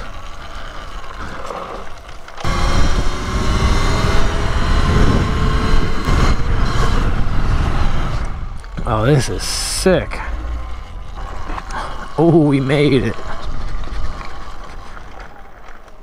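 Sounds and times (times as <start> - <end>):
electric motor whine: 0.0 - 15.9
rushing wind: 2.4 - 15.4.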